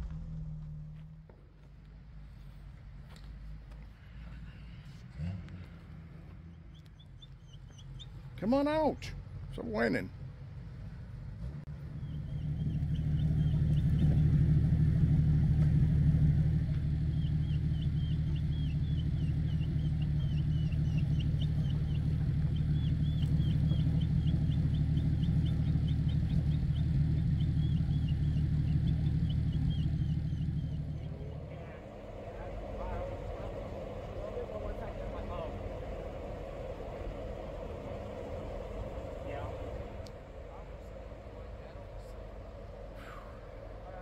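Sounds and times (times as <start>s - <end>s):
car engine droning: 0.0s - 44.0s.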